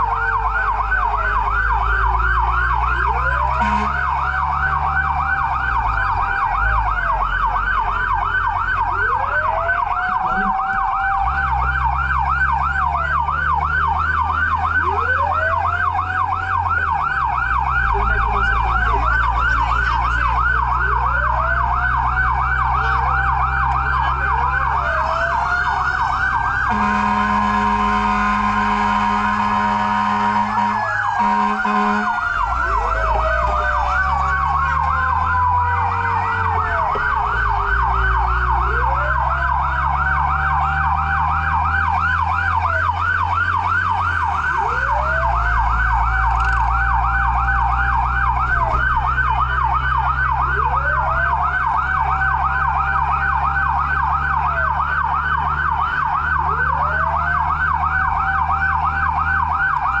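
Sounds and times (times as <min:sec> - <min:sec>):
engine drone: 0:00.0 - 1:00.0
siren wailing: 0:00.0 - 1:00.0
siren yelping: 0:00.0 - 1:00.0.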